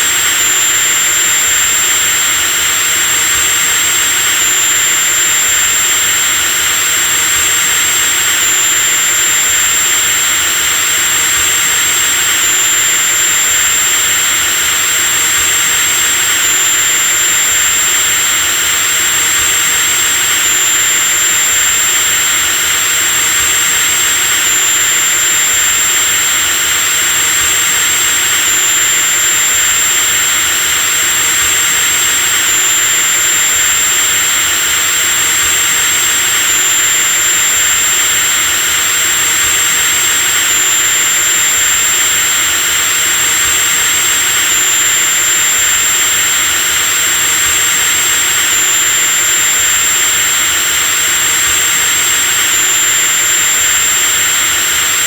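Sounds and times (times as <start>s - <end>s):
electric drill whining: 0.0s - 55.0s.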